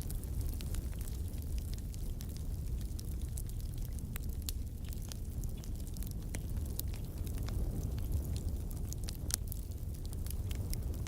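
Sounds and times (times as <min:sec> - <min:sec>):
fire snaps and pops: 0:00.0 - 0:11.0
wood fire crackling: 0:00.0 - 0:11.0.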